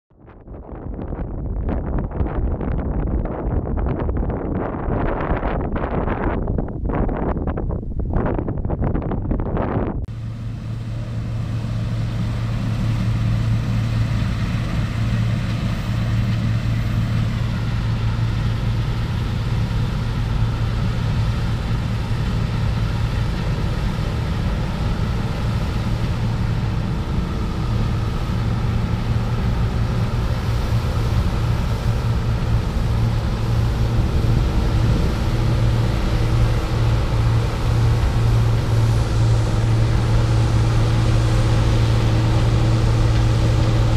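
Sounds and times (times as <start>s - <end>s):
combine harvester and tractor engines: 0.2s - 43.9s.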